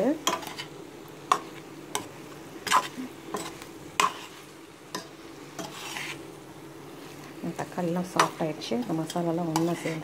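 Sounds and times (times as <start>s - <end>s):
frying sizzle: 0.0s - 10.0s
metal spoon scraping a pan: 0.1s - 6.4s, 8.0s - 10.0s.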